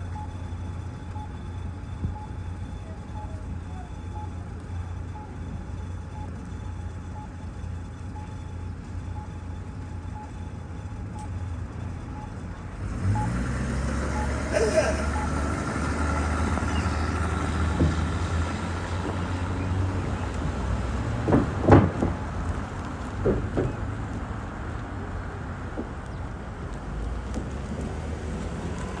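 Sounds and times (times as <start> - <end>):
car engine running: 0.0 - 29.0
city street traffic: 0.0 - 29.0.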